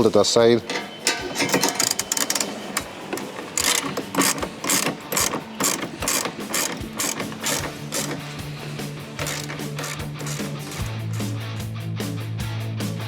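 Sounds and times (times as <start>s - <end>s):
ratchet clicking: 0.7s - 11.6s.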